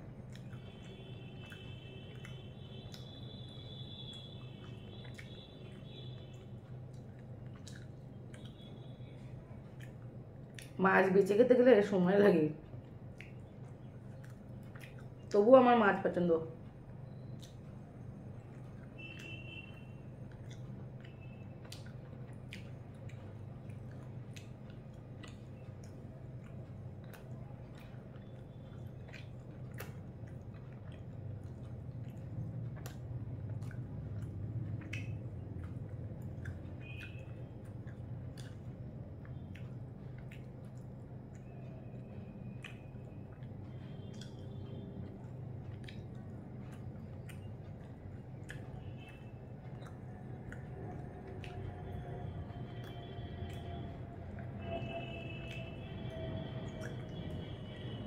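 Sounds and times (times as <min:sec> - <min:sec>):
chewing: 0:00.0 - 0:10.8, 0:12.6 - 0:15.4, 0:16.6 - 0:58.0
steady low hum: 0:00.0 - 0:58.0.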